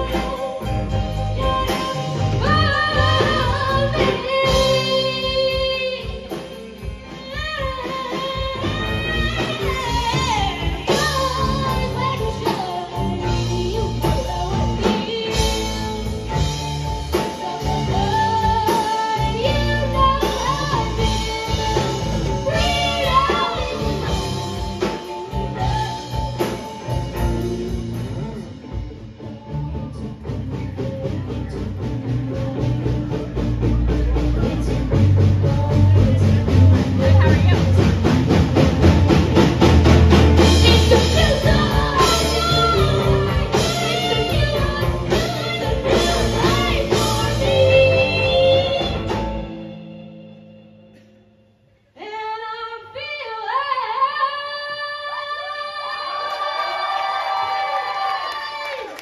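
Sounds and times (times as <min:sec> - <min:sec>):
pitch-bending lead guitar line: 0:00.0 - 0:50.9
live rock band playing: 0:00.0 - 0:51.2.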